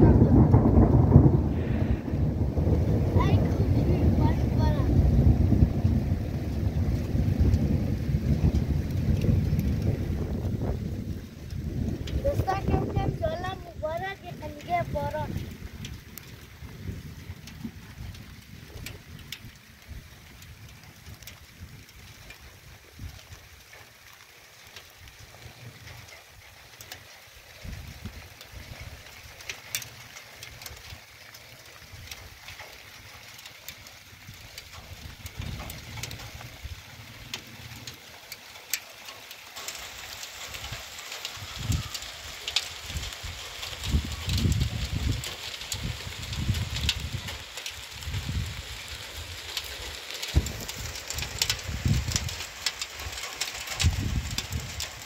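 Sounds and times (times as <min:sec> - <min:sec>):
wind rumbling on microphone: 0:00.0 - 0:38.6, 0:39.7 - 0:55.0
hail pellets ticking: 0:00.0 - 0:55.0
rain and hail on a roof: 0:00.0 - 0:55.0.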